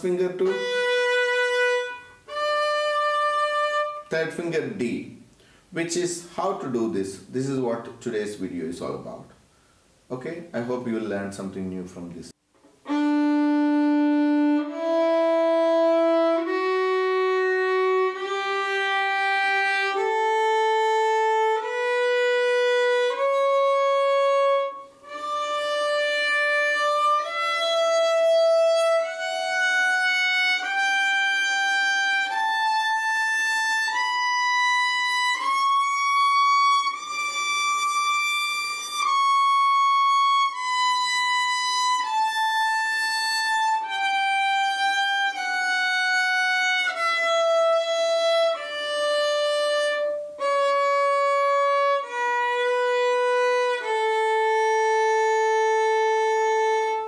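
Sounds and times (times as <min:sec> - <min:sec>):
solo violin playing a scale: 0:00.0 - 0:04.1, 0:12.8 - 0:57.0.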